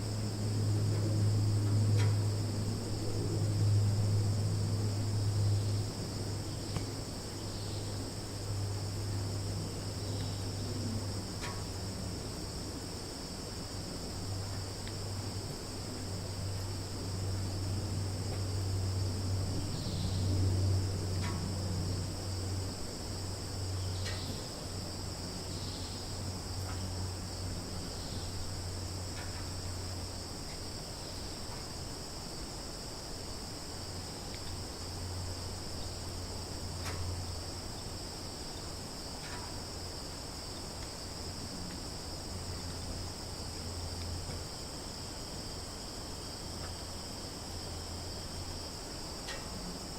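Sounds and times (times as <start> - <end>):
crickets chirring: 0.0 - 49.9.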